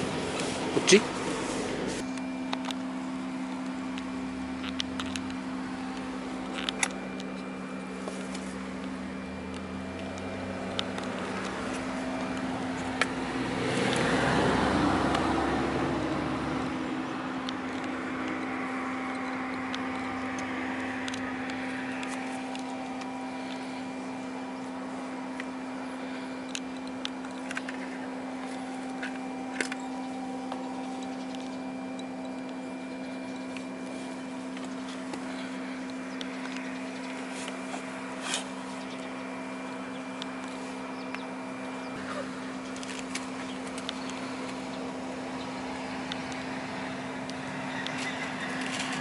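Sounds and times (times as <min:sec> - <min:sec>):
machine humming: 0:00.0 - 0:49.0.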